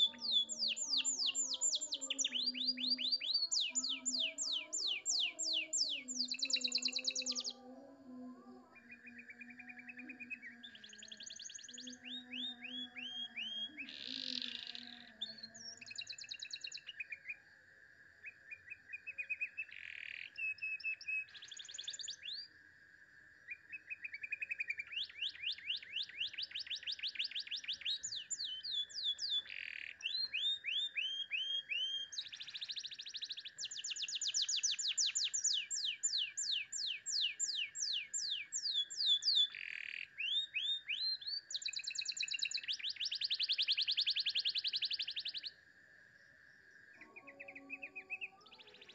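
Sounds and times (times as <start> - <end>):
canary singing trills: 0.0 - 7.7, 8.5 - 17.4, 23.7 - 45.6, 47.0 - 48.9.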